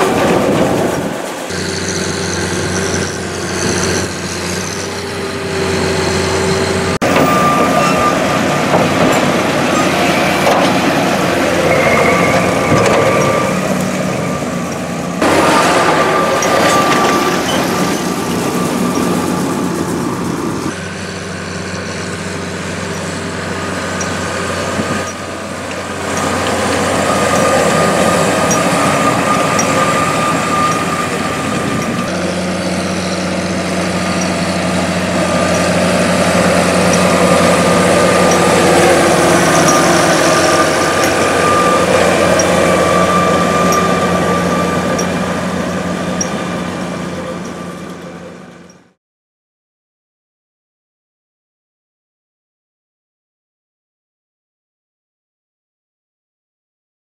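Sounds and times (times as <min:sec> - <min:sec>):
baler machinery working: 0:00.0 - 0:49.0
steady high whine: 0:00.0 - 0:49.0
tractor engine under load: 0:00.0 - 0:49.0.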